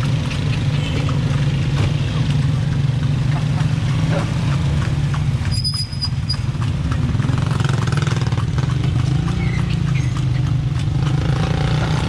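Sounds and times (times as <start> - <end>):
carriage rumbling and rattling: 0.0 - 12.0
motorcycle engines passing: 0.0 - 12.0.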